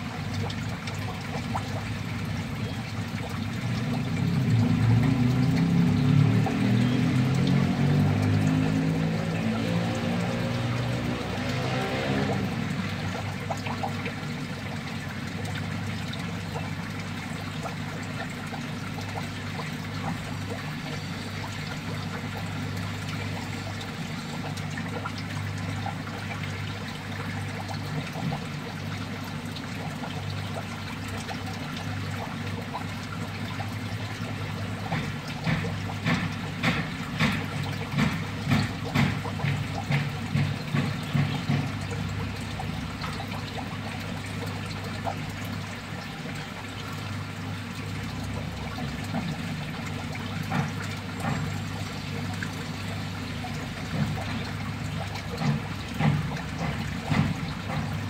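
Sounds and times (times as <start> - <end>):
water trickling into a tank: 0.0 - 58.0.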